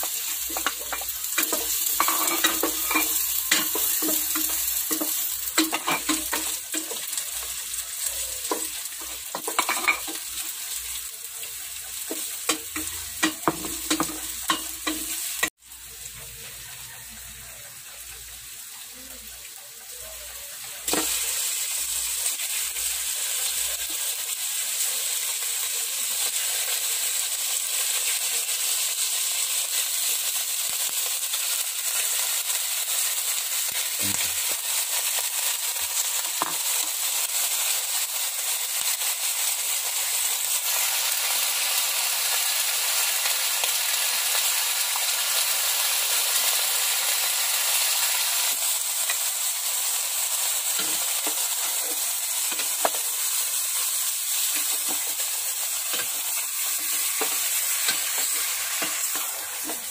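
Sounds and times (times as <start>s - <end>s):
chicken sizzling in a pot: 0.0s - 59.9s.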